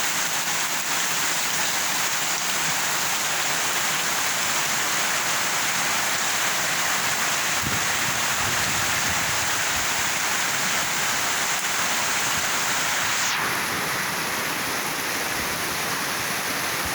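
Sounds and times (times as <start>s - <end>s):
heavy rain pouring: 0.0s - 16.9s.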